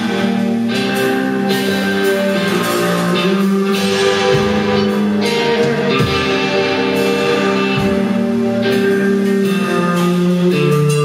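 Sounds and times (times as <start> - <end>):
live band playing: 0.0 - 11.0
sustained guitar chords: 0.0 - 11.0.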